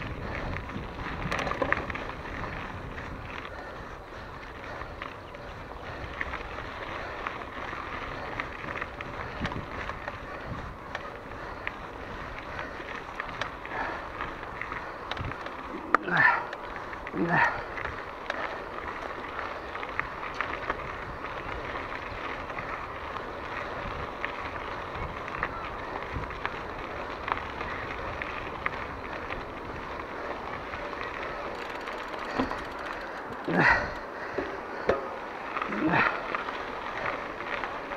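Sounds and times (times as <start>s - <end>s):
bike clicks and rattles: 0.0s - 37.9s
bike tyres on dirt: 0.0s - 37.9s
wind noise: 0.0s - 37.9s.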